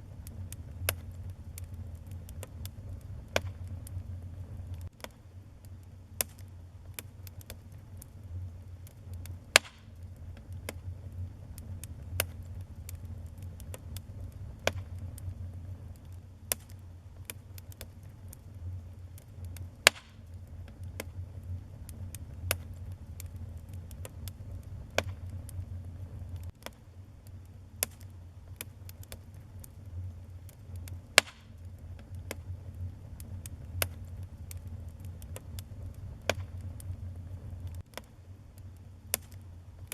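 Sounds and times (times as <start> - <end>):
low rumble: 0.0 - 4.9, 7.8 - 26.6, 27.5 - 37.9
wood fire crackling and popping: 0.0 - 39.9.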